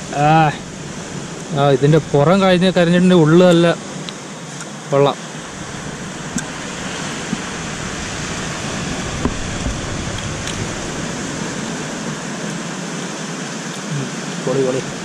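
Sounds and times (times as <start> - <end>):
sea surf washing: 0.0 - 15.0.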